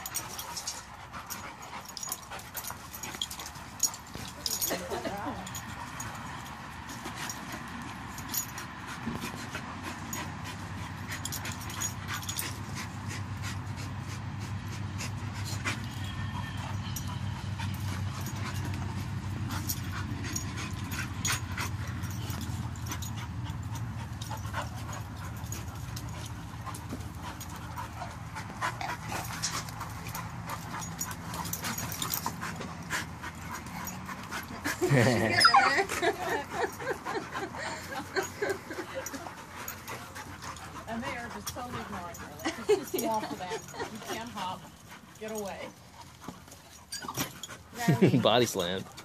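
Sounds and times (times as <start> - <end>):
dogs panting heavily: 0.0 - 49.0
dogs scuffling: 0.0 - 49.0.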